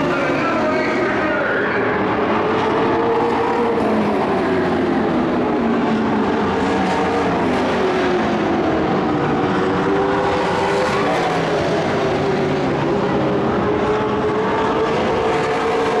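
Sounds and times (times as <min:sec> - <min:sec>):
truck engines droning: 0:00.0 - 0:16.0.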